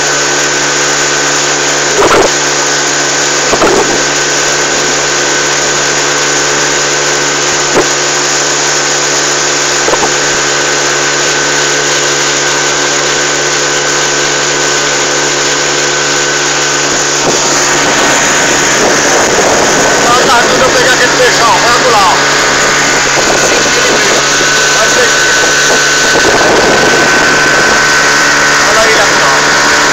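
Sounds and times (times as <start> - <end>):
motorboat engine running: 0.0 - 29.9
water rushing from wake: 0.0 - 29.9.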